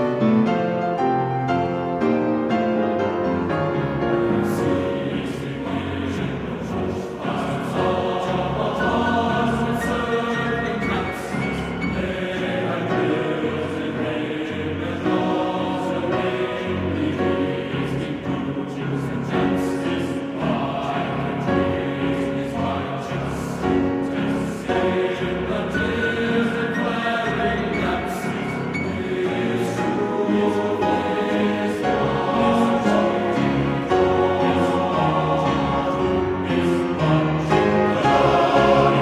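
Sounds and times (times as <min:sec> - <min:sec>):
choir singing with music: 0:00.0 - 0:39.0.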